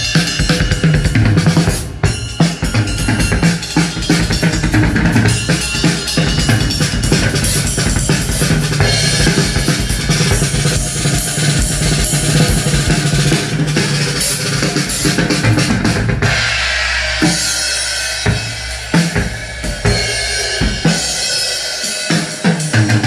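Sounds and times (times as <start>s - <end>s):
drum-heavy music through speakers: 0.0s - 23.0s.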